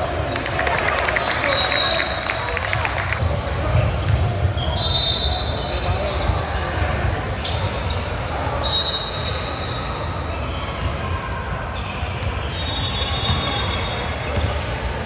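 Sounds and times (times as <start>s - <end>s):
sneakers squeaking: 0.0s - 15.0s.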